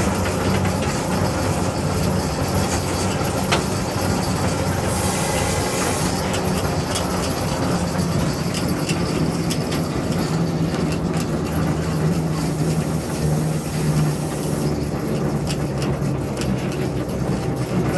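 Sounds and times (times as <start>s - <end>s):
locomotive engine droning: 0.0s - 17.9s.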